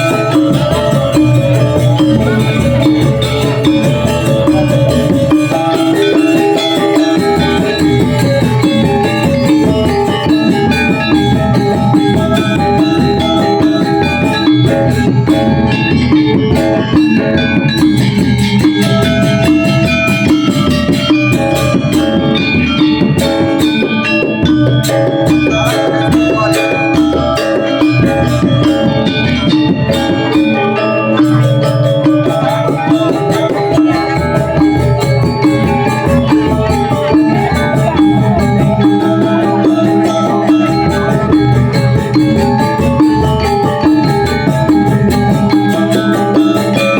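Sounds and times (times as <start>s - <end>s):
drumming: 0.0s - 46.9s
metallophones ringing: 0.0s - 46.9s.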